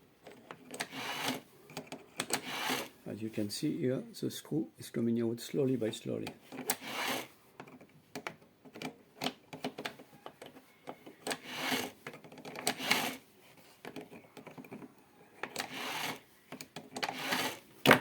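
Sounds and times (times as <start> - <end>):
screw scraping and grinding: 0.2 - 3.0, 6.2 - 18.0.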